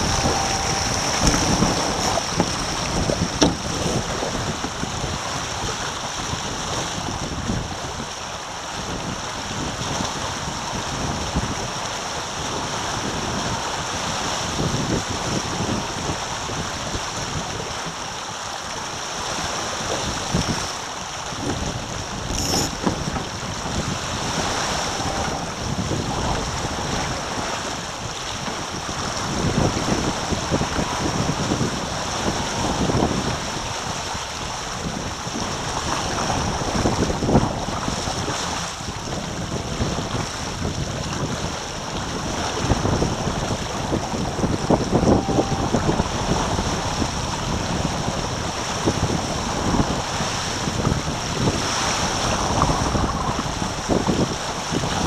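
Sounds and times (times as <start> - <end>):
wind buffeting microphone: 0.0 - 18.2, 18.9 - 55.0
water rushing past hull: 0.0 - 55.0.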